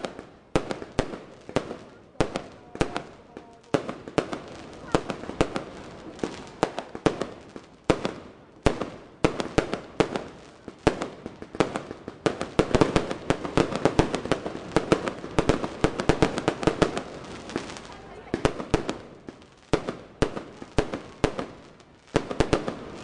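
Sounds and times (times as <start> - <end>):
fireworks banging: 0.0 - 23.0.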